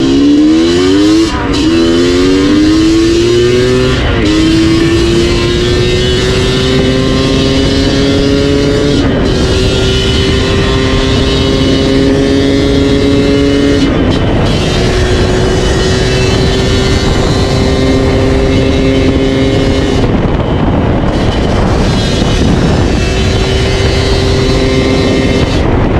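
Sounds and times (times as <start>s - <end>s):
two-stroke motorcycle exhaust revving: 0.0s - 25.9s.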